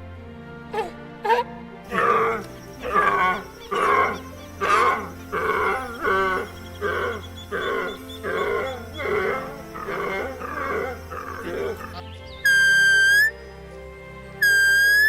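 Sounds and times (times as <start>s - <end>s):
background music: 0.0s - 15.0s
animal calling: 0.7s - 13.4s, 14.4s - 15.0s.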